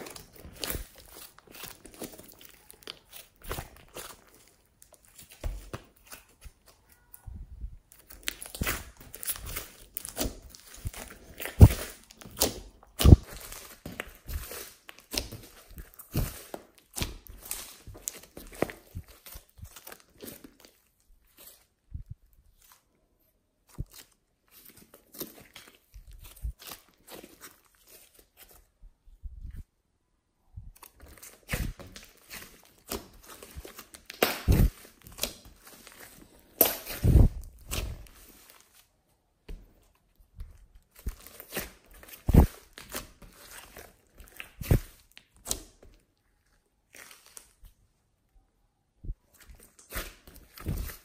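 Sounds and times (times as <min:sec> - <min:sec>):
slime squelching and popping: 0:00.0 - 0:07.3, 0:07.9 - 0:21.7, 0:23.6 - 0:28.6, 0:30.7 - 0:38.8, 0:39.5 - 0:47.7, 0:49.1 - 0:51.0.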